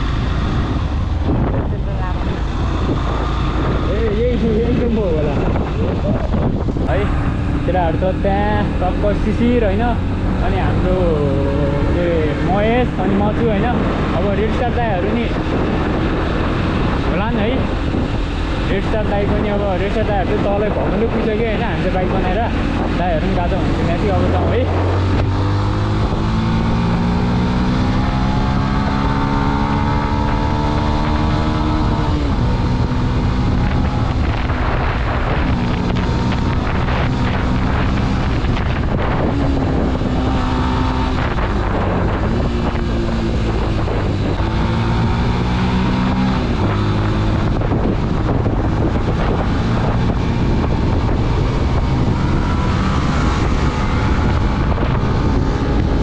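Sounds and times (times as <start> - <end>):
motorcycle engine accelerating: 0.0 - 56.0
wind on microphone: 0.0 - 56.0.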